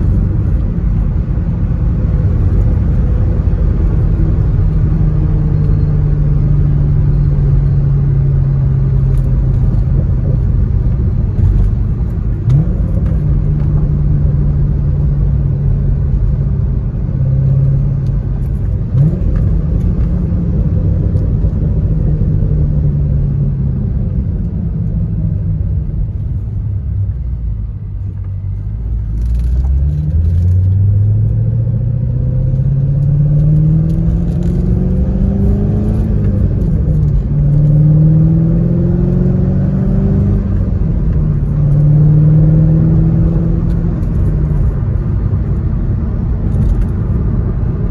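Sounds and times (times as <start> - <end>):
car engine revving through gears: 0.0 - 25.4, 29.0 - 47.9.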